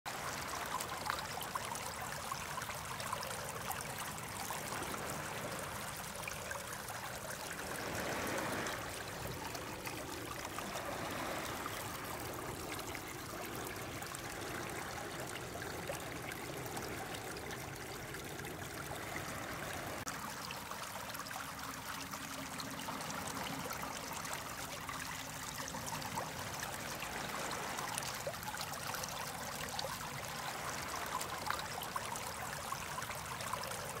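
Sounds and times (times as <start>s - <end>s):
creek water trickling over pebbles: 0.1s - 34.0s.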